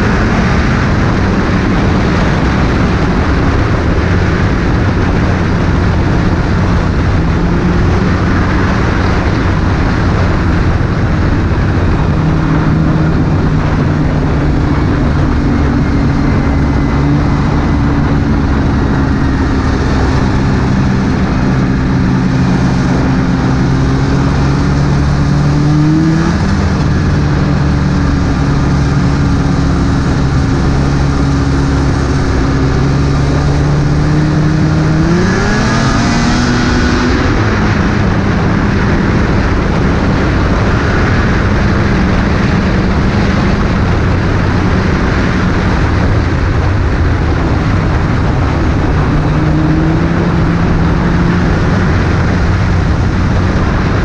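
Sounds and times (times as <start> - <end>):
snowmobile engine running: 0.0 - 54.0
track noise: 0.0 - 54.0
wind noise: 0.0 - 54.0.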